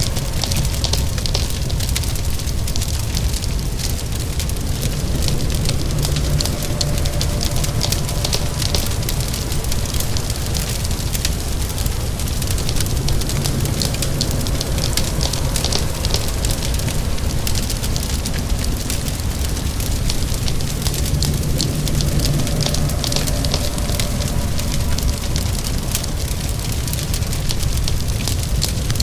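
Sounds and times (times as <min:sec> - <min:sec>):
low rumble: 0:00.0 - 0:29.0
rain hissing: 0:00.0 - 0:29.0
wood fire crackling and popping: 0:00.0 - 0:29.0.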